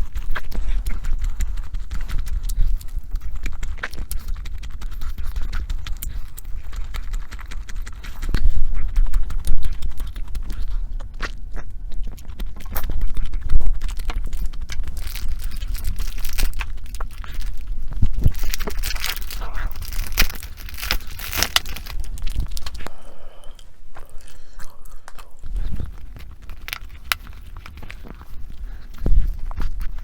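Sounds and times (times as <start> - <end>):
food being chewed and crunched: 0.0 - 30.0.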